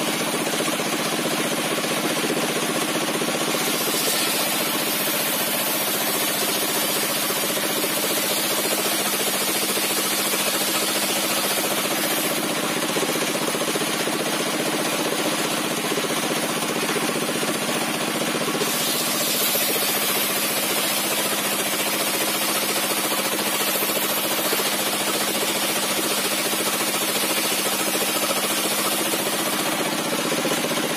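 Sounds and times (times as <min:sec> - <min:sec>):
saw engine running: 0:00.0 - 0:30.9
circular saw ripping wood: 0:03.4 - 0:14.2, 0:16.8 - 0:30.9.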